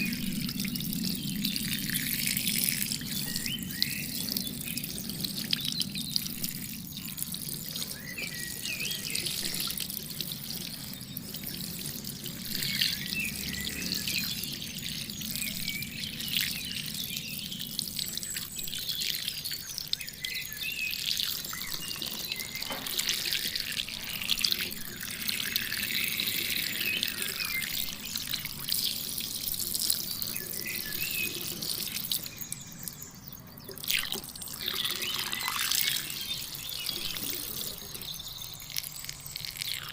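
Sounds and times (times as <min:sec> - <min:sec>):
water spraying and splashing: 0:00.0 - 0:33.0, 0:33.8 - 0:39.9.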